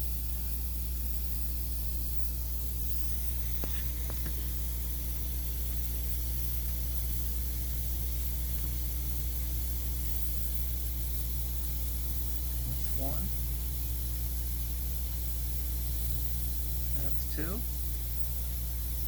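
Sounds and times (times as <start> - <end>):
constant hiss: 0.0 - 19.0
low electrical hum: 0.0 - 19.0.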